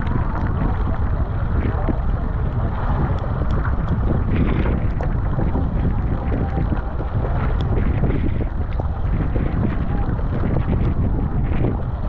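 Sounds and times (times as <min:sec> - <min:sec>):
paddle strokes: 0:00.0 - 0:12.0
water splashing along hull: 0:00.0 - 0:12.0
wind buffeting microphone: 0:00.0 - 0:12.0.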